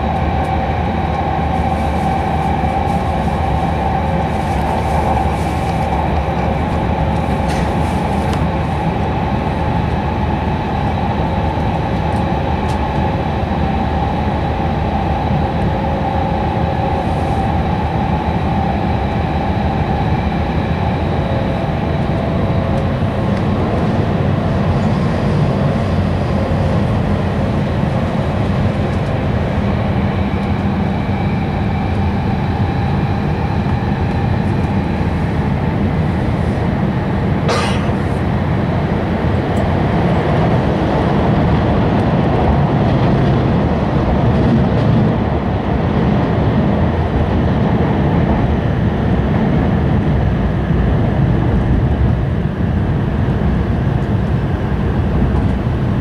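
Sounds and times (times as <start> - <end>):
deep rumble of train wheels: 0.0 - 56.0.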